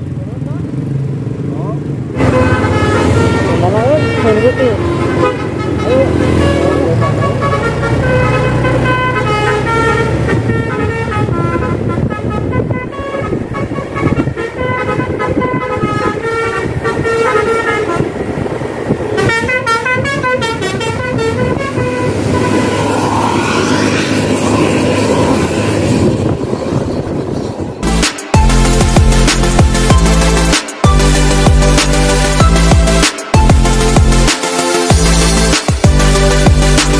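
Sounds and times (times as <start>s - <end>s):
bus engine running: 0.0s - 36.9s
multi-tone bus horn melody: 2.2s - 26.3s, 27.8s - 36.9s.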